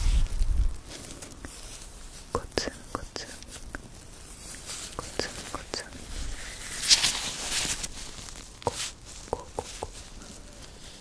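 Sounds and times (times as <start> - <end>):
rubber gloves rubbing: 0.0 - 11.0.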